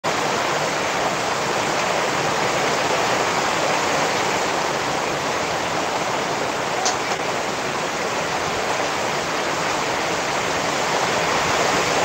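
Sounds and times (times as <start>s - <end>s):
steady rain hiss: 0.1s - 12.0s.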